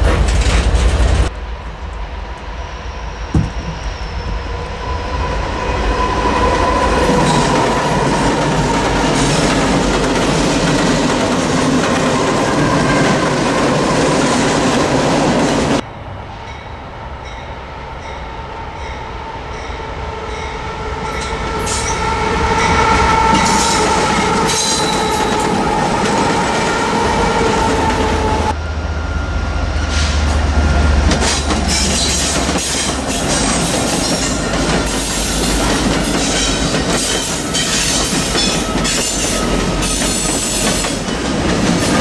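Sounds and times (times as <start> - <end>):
freight train wheel and rail noise: 0.0 - 42.0
approaching train whine: 0.4 - 42.0.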